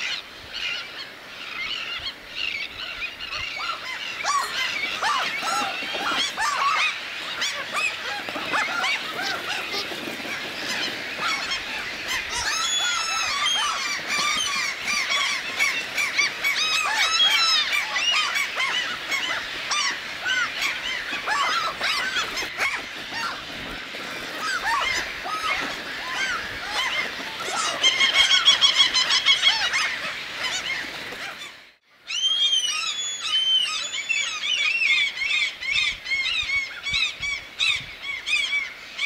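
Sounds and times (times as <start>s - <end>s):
flock of birds calling: 0.0s - 39.0s.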